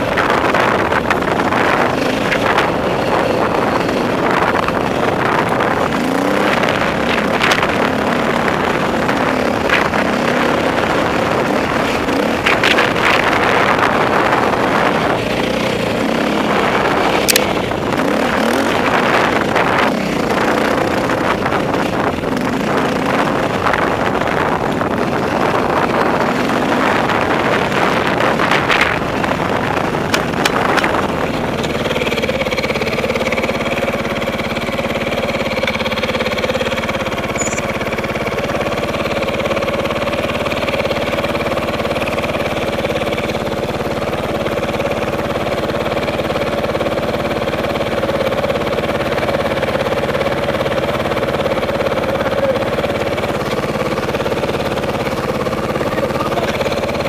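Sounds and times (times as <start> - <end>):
dirt bike engine running: 0.0 - 57.0
rough noisy rush: 0.0 - 57.0.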